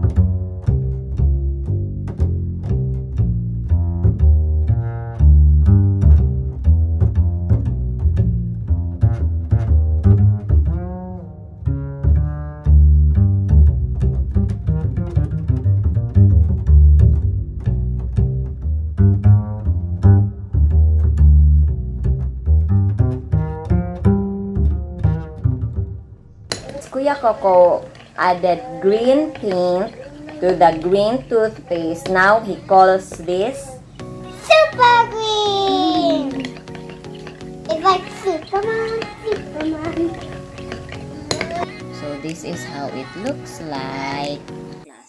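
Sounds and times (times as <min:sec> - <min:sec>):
bouncy string music with bass: 0:00.0 - 0:44.9.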